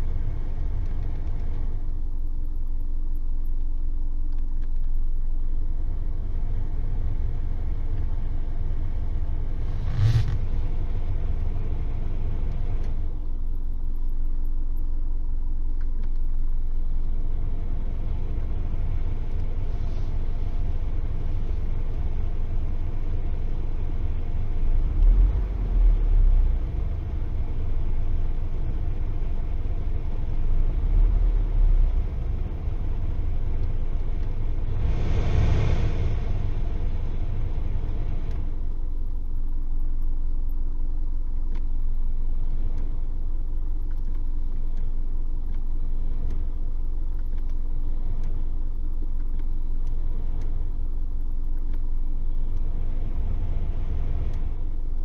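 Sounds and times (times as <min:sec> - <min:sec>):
stove low rumble: 0:00.0 - 0:55.0.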